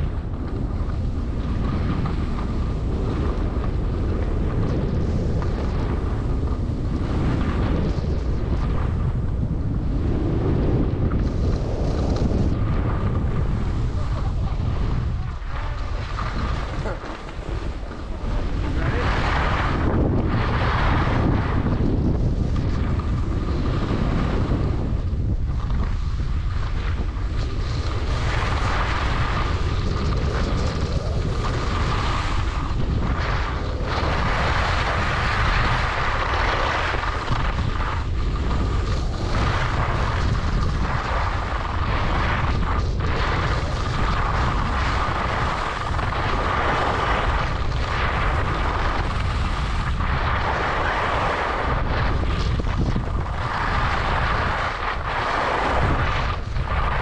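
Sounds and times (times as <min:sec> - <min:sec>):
skis scraping on packed snow: 0:00.0 - 0:57.0
wind buffeting microphone: 0:00.0 - 0:57.0.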